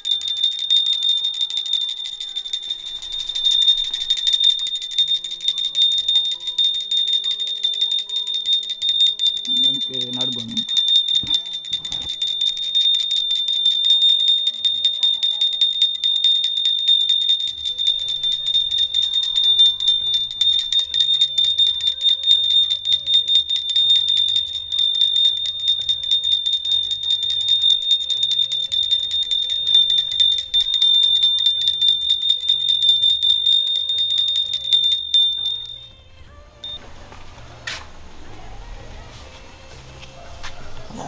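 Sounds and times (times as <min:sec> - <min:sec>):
bell rung rapidly: 0:00.0 - 0:36.0.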